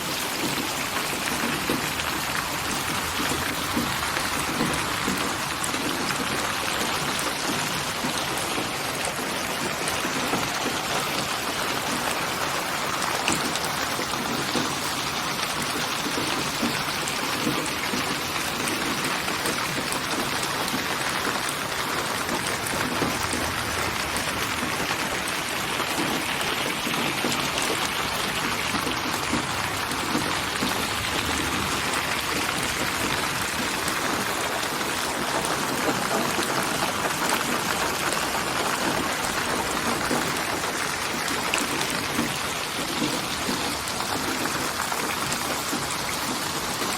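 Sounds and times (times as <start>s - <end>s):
steady rainfall: 0.0s - 46.9s.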